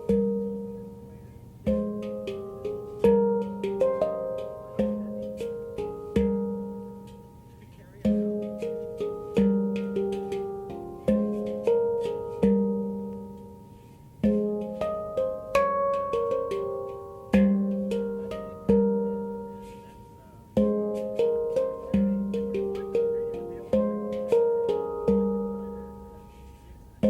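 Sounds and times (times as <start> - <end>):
handpan notes ringing: 0.0 - 27.0
low handpan bass note: 0.0 - 27.0.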